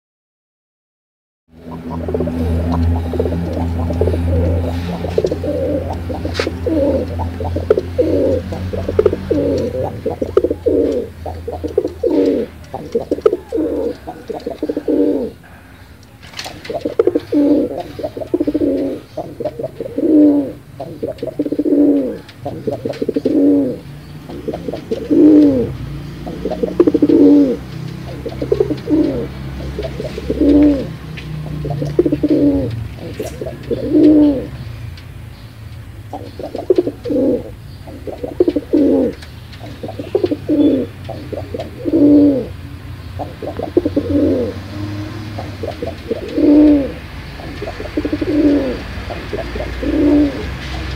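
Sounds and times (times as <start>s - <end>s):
pigeon cooing: 1.6s - 34.7s, 36.1s - 50.9s.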